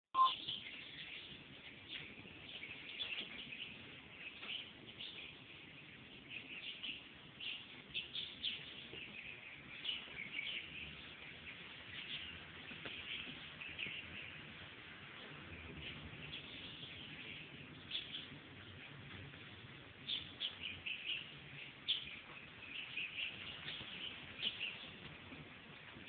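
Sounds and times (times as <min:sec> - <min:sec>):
small birds chirping: 0:00.2 - 0:26.0.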